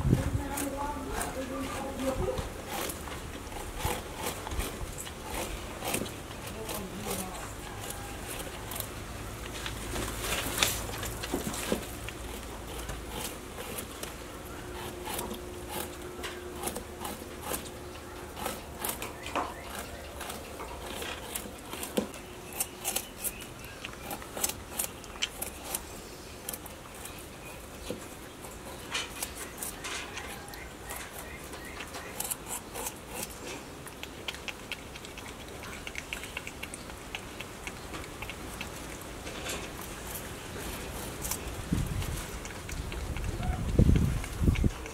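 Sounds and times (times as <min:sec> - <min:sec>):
porcupine chewing food: 0:00.0 - 0:44.9.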